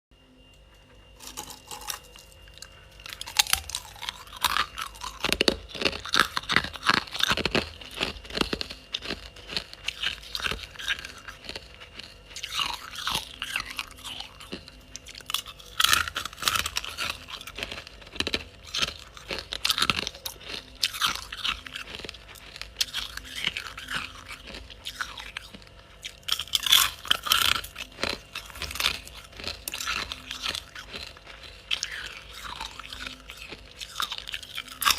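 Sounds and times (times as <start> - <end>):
ice being bitten and chewed: 1.1 - 34.9.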